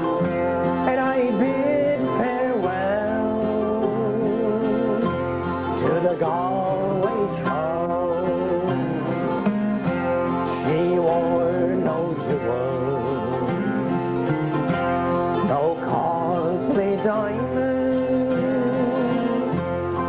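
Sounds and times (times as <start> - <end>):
man singing: 0.0 - 20.0
strummed acoustic guitars: 0.0 - 20.0.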